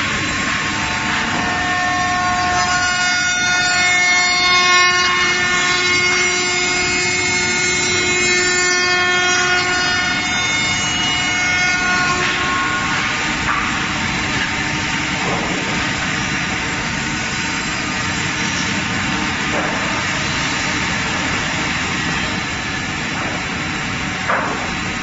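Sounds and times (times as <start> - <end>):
constant mechanical noise: 0.0 - 25.0.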